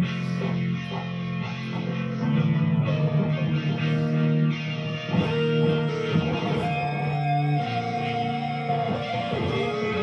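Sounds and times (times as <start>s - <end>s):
electric guitar lead line: 0.0s - 10.0s.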